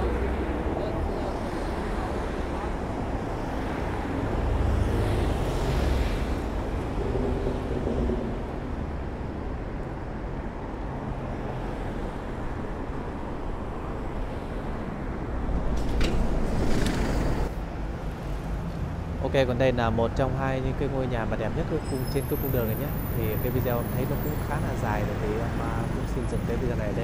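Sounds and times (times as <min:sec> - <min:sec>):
rumble of passing vehicles: 0:00.0 - 0:27.0.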